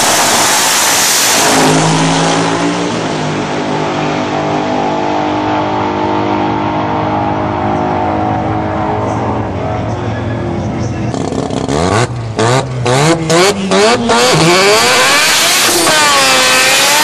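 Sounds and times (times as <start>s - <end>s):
drag car engine at full throttle: 0.0s - 17.0s.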